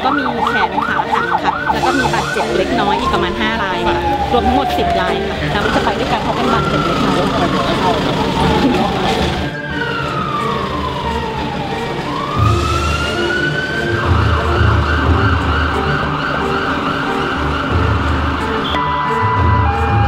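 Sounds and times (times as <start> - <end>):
ambulance siren wailing: 0.0 - 20.0
low pulsing beat: 0.0 - 20.0.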